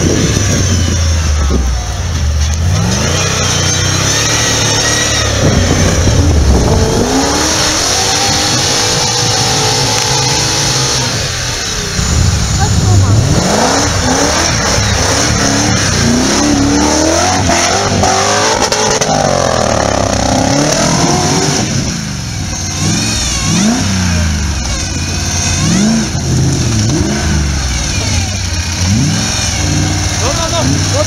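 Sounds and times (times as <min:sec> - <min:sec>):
buggy engine revving: 0:00.0 - 0:31.0.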